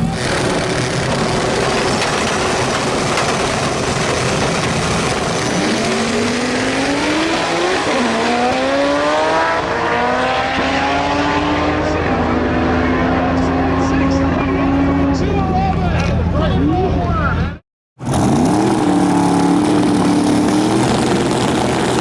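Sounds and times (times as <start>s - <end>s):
race car engine roaring: 0.0s - 22.0s.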